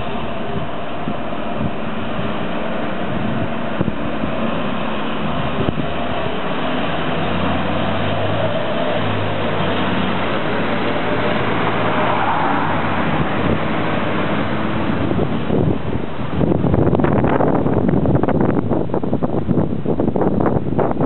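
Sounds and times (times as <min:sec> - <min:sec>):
deep engine hum: 0:00.0 - 0:19.5
fire engines driving past: 0:00.0 - 0:20.8.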